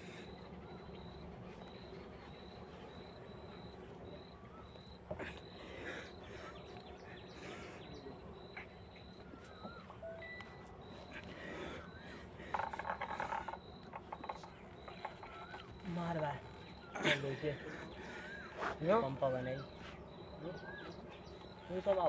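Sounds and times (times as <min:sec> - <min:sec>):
warbling bird calls: 0:00.0 - 0:22.0.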